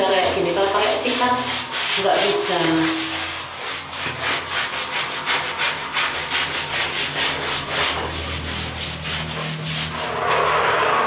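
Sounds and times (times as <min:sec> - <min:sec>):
brush scrubbing tiles: 0:00.0 - 0:11.0.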